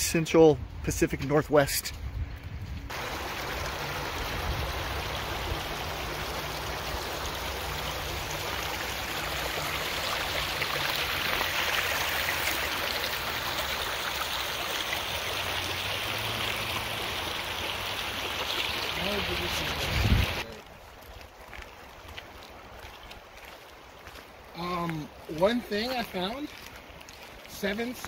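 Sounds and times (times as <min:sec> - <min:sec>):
creek flowing over gravel: 0:00.0 - 0:28.0.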